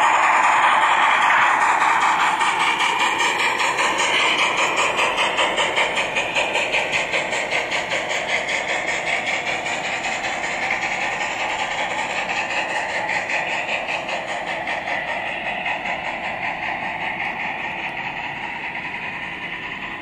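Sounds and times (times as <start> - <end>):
model train cars rolling: 0.0 - 20.0.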